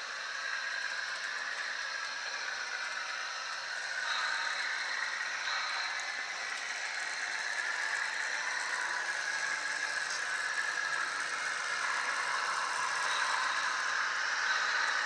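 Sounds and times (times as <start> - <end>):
model railcar engine sound: 0.0 - 15.0.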